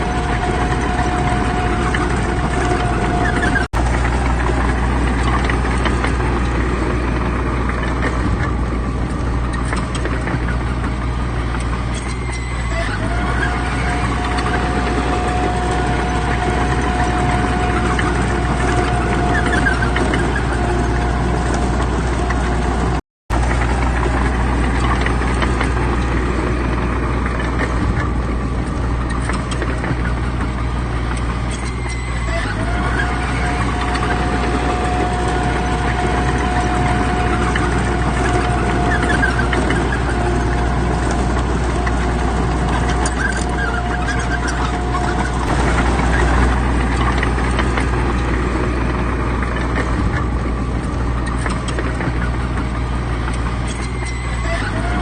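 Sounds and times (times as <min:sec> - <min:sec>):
diesel machinery engine drone: 0:00.0 - 0:55.0
steady machine whine: 0:00.0 - 0:55.0.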